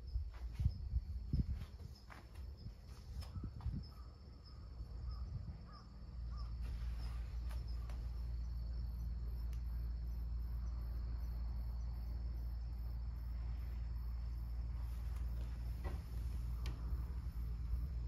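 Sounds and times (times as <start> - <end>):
insects trilling: 0.0 - 18.0
steady low rumble: 0.0 - 18.0.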